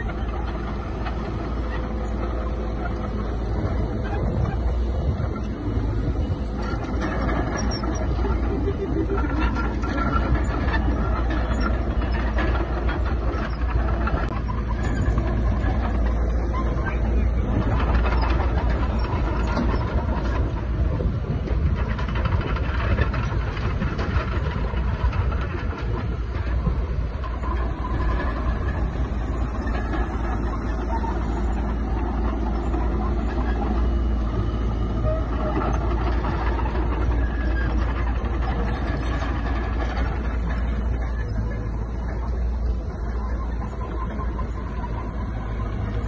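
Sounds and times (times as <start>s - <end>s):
heavy diesel machinery running: 0.0s - 46.0s.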